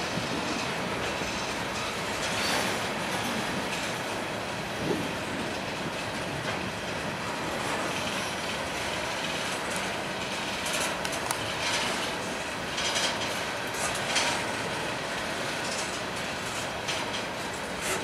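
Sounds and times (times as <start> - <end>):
steel wheels on rail: 0.0 - 18.0.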